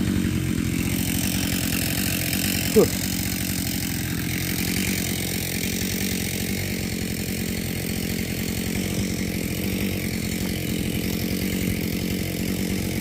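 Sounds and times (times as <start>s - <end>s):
chainsaw engine running: 0.0s - 13.0s.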